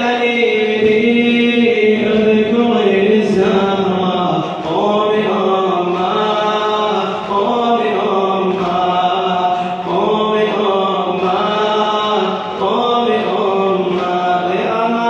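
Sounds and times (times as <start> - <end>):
low vocal drone: 0.0 - 15.0
person chanting a lament: 0.0 - 15.0.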